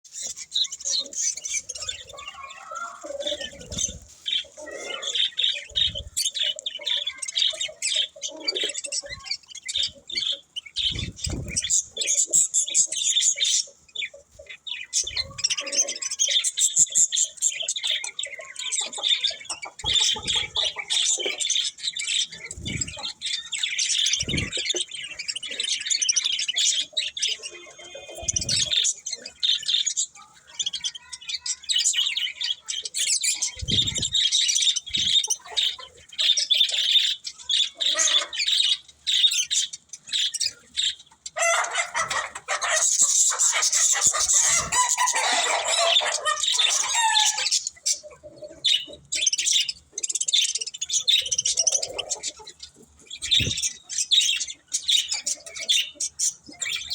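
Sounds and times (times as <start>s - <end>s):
budgerigars chirping: 0.1s - 56.9s.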